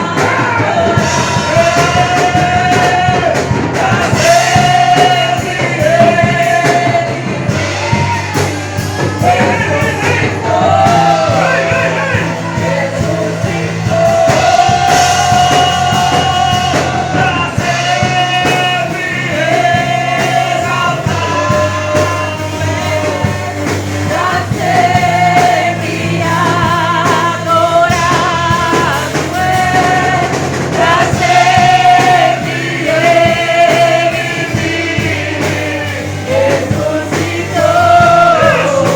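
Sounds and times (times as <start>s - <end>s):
steady bass line: 0.0s - 38.9s
worship band playing: 0.0s - 38.9s.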